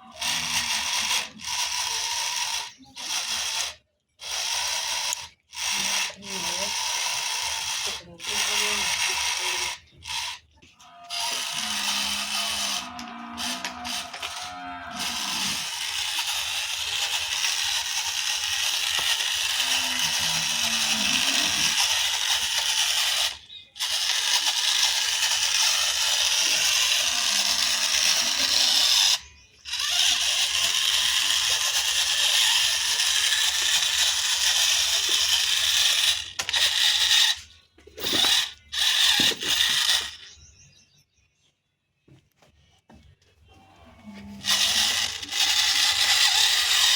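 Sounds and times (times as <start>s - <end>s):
toy electric motor whirring: 0.0s - 40.7s, 43.7s - 46.9s.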